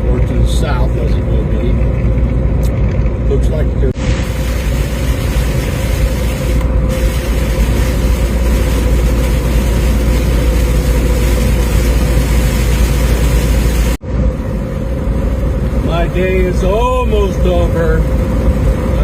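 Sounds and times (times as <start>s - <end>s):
constant whine: 0.0s - 19.0s
road noise: 0.0s - 19.0s
vehicle engine drone: 0.0s - 19.0s.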